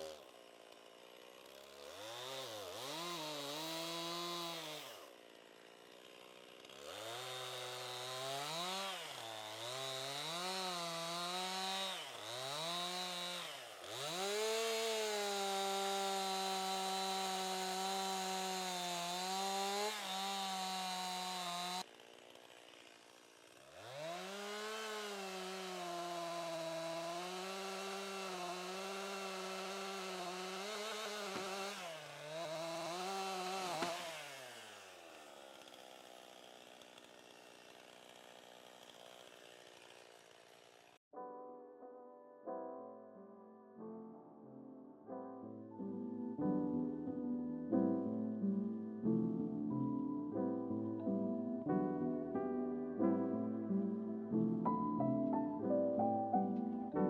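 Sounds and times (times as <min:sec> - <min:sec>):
chainsaw revving and cutting: 0:00.0 - 0:41.0, 0:45.9 - 0:57.0.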